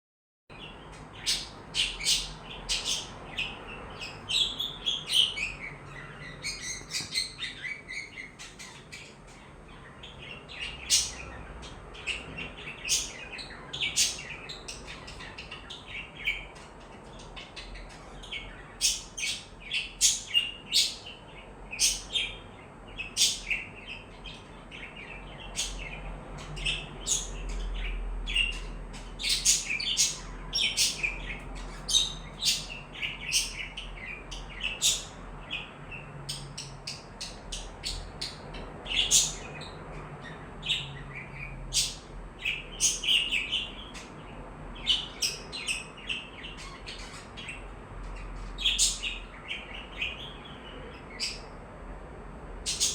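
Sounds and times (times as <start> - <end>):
budgerigars chirping: 0.6 - 51.6, 52.6 - 52.9.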